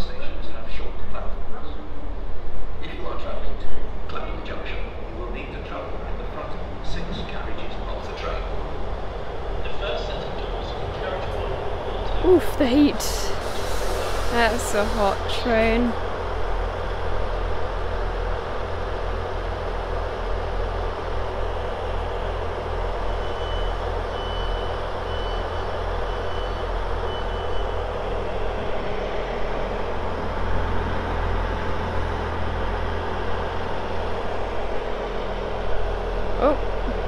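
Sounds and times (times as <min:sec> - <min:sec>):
diesel train engine idling: 0:04.5 - 0:37.0.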